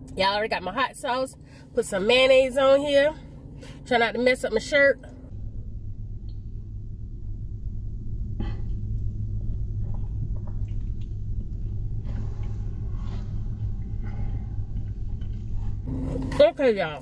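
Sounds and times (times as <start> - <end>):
low rumble in car cabin: 0.0 - 17.0.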